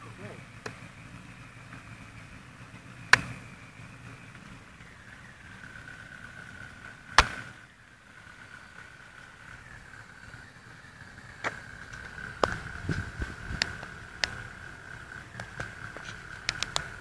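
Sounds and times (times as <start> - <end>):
steady high whine: 0.0 - 17.0.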